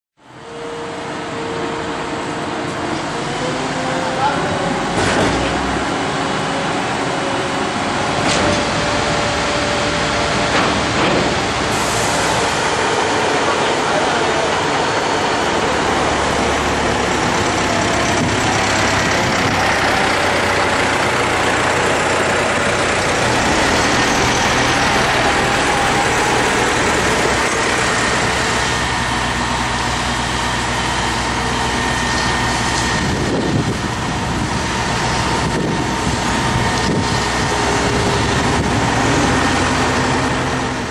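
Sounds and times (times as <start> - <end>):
concrete pump engine running: 0.2 - 40.9
loud even rushing noise: 4.6 - 40.9.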